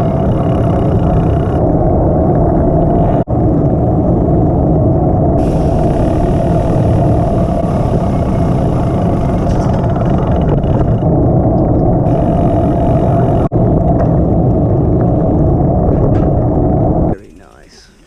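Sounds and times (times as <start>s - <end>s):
vehicle engine: 0.0s - 17.6s
wind noise: 0.0s - 18.0s.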